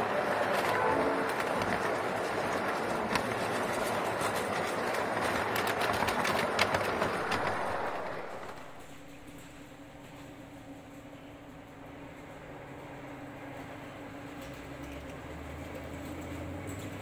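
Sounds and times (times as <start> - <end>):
small wheels rumbling on rails: 0.0 - 17.0
wheels clicking over rail joints: 0.0 - 17.0.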